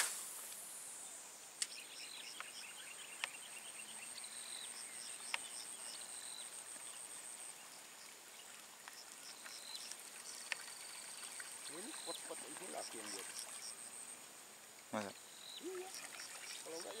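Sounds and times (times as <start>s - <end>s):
insect chirps: 0.0s - 17.0s
insects droning: 0.0s - 17.0s.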